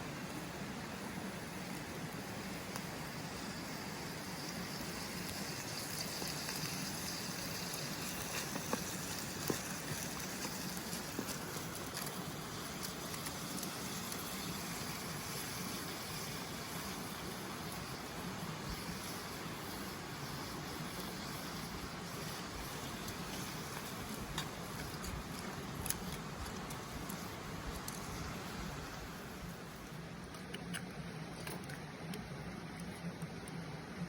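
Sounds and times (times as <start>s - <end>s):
campfire hissing: 0.0s - 31.7s
fire crackles: 0.0s - 33.5s.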